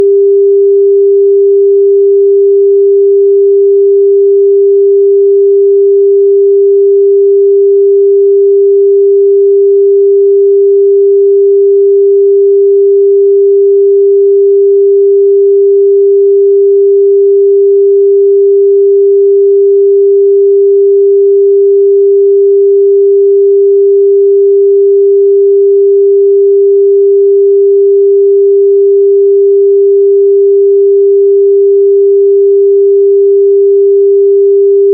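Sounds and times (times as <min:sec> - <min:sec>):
sine wave test tone: 0:00.0 - 0:34.9.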